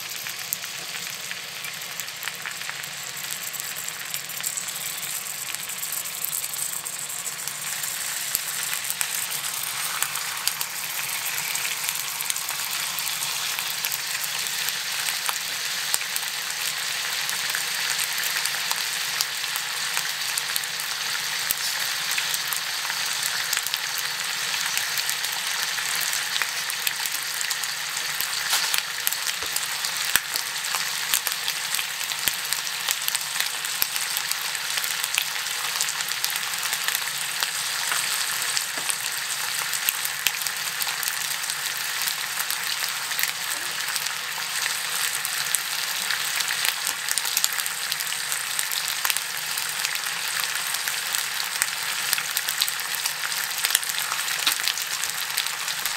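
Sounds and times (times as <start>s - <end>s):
bacon sizzling in a skillet: 0.0s - 55.9s.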